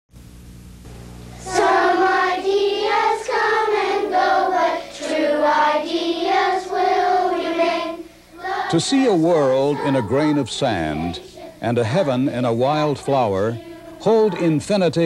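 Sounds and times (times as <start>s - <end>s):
faint low hum: 0.2s - 15.0s
children singing: 1.4s - 15.0s.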